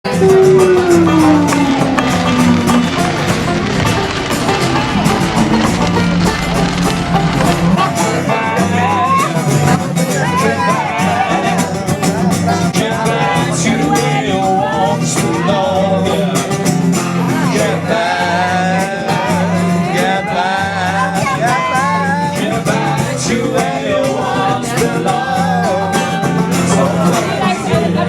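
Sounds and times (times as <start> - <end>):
acoustic guitar chords: 0.0 - 28.0
person singing: 0.0 - 28.0.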